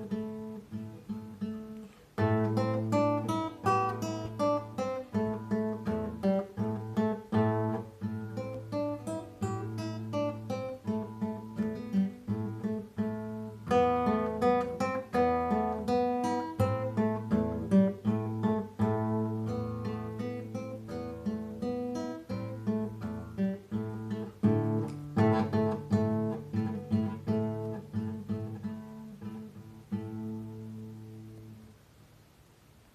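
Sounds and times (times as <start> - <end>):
fingerstyle classical guitar: 0.0 - 32.2.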